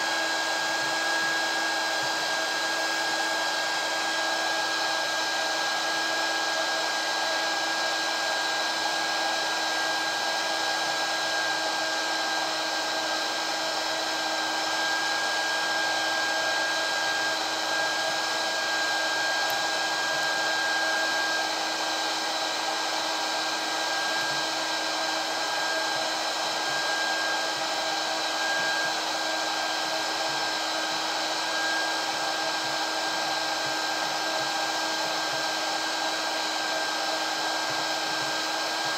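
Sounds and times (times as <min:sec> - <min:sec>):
hot air gun blowing: 0:00.0 - 0:38.9.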